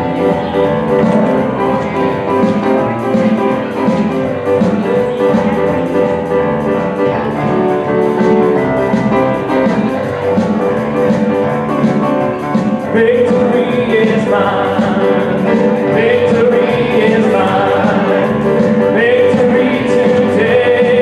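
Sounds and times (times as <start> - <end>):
electric keyboard worship music: 0.0 - 21.0.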